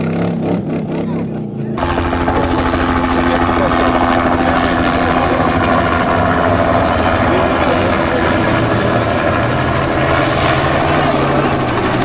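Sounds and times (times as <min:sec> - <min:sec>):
helicopter flying low overhead: 0:00.0 - 0:12.0.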